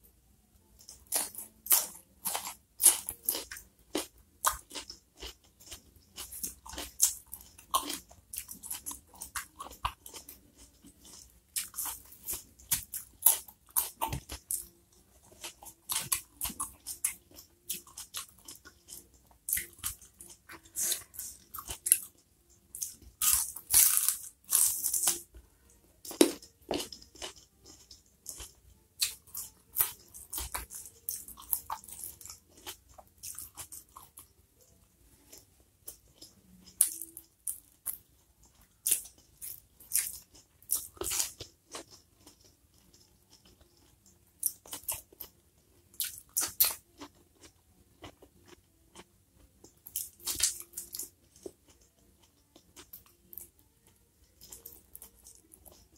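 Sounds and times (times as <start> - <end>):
crunchy chewing: 0.8 - 25.3, 26.0 - 55.9.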